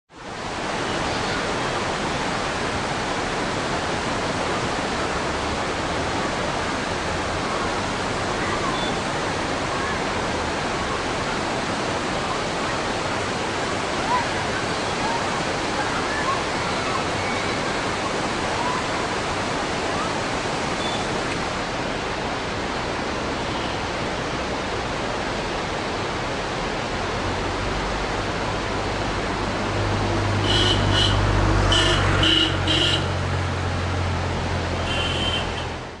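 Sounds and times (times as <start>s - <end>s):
river rushing over boulders: 0.1s - 36.0s.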